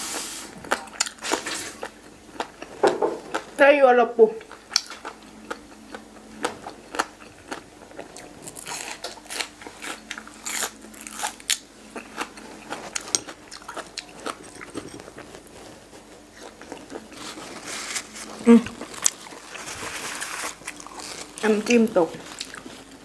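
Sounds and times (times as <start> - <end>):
crunchy food chewing: 0.6 - 3.6, 4.4 - 23.0.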